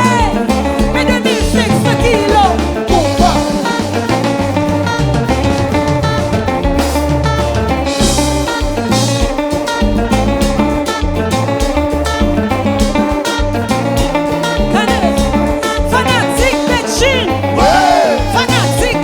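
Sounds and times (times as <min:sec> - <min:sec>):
bass guitar: 0:00.0 - 0:19.0
drum kit beat: 0:00.0 - 0:19.0
guitar leading: 0:00.0 - 0:19.0.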